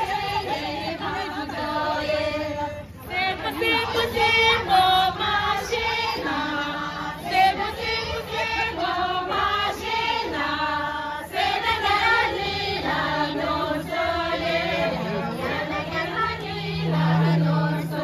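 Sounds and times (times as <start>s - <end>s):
group of women singing in unison: 0.0s - 18.0s.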